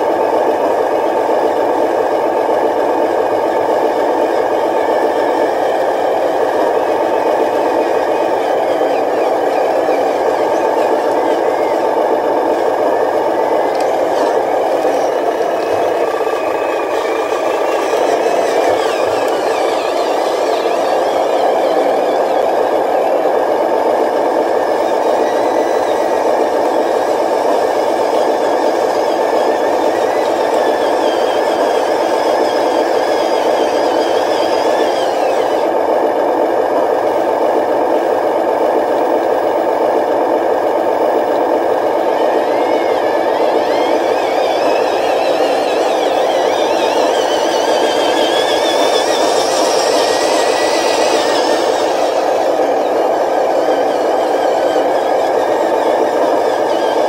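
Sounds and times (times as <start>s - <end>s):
model trucks mechanical drone: 0.0s - 57.0s
motor whine rising and falling: 0.0s - 57.0s.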